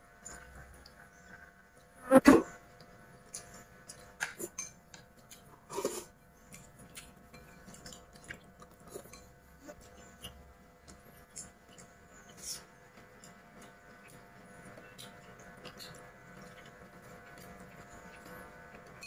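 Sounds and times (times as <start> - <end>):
chewing: 2.8 - 19.0.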